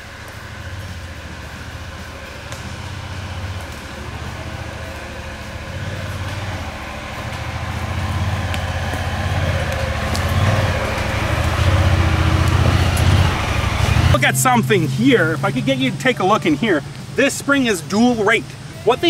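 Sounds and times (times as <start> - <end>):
utility vehicle engine approaching: 0.0 - 19.0.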